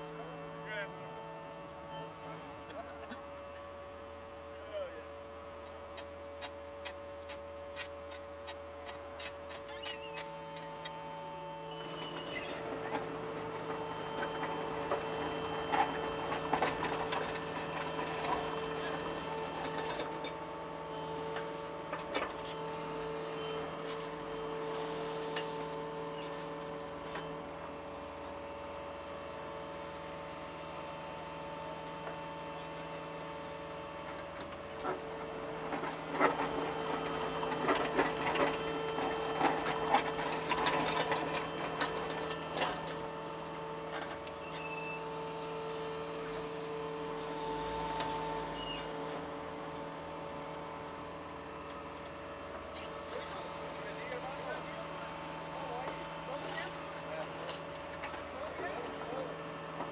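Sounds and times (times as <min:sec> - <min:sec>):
excavator engine humming: 0:00.0 - 0:59.9.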